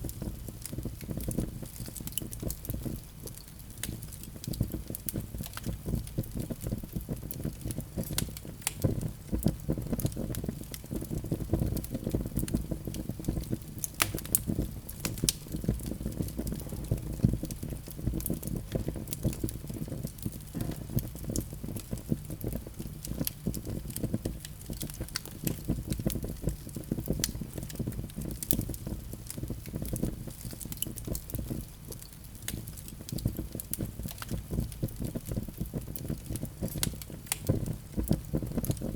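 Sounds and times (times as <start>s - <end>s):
fire crackling and popping: 0.0s - 38.9s
fluttering rumble of flames: 0.0s - 38.9s.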